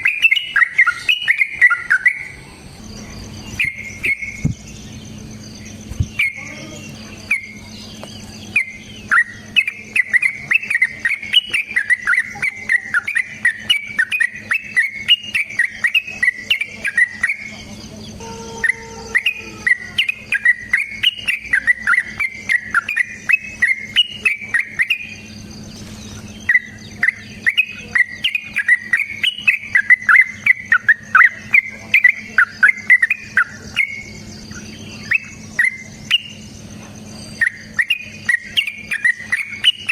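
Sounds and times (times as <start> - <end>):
bulbul chattering song: 0.0 - 39.9
insect trill: 0.0 - 39.9
low hum: 0.0 - 39.9.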